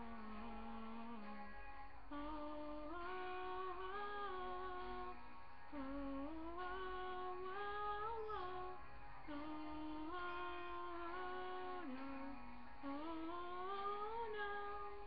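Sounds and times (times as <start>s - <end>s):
woman singing wordless notes: 0.0s - 15.0s.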